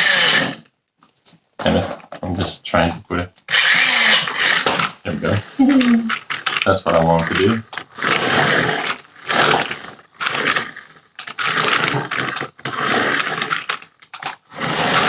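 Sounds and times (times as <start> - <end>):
toy truck motor whirring: 0.0 - 0.7, 3.5 - 15.0.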